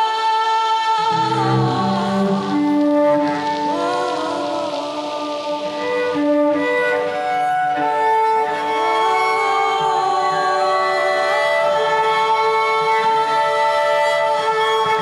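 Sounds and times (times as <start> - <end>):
cello bowed notes: 1.0 - 15.0.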